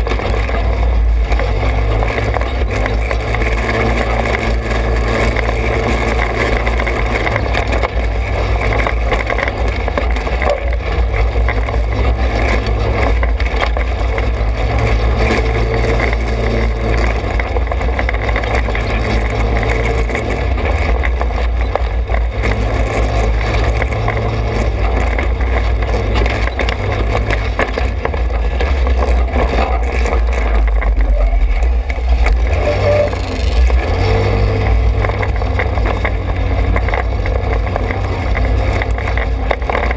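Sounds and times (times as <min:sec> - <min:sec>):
rough noise: 0:00.0 - 0:39.9
small motorbike engine running: 0:00.0 - 0:39.9.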